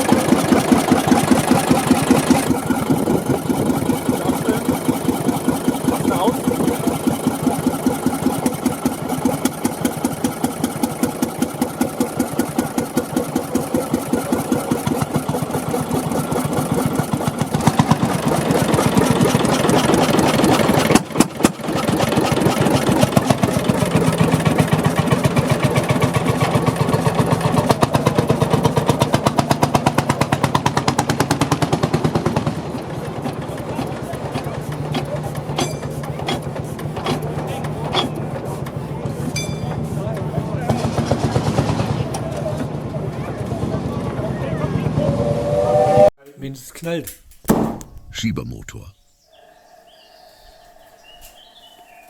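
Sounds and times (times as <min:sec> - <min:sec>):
diesel engine running: 0:00.0 - 0:46.1.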